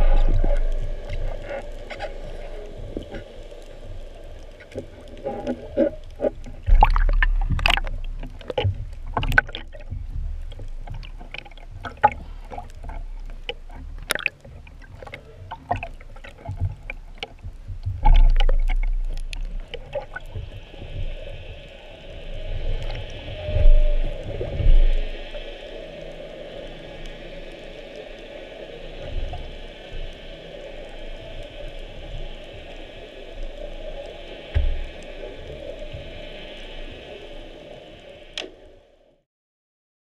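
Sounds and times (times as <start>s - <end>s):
underwater water sloshing: 0.0s - 38.9s
heavy low water surges: 0.0s - 39.2s
steady hiss: 0.0s - 39.2s.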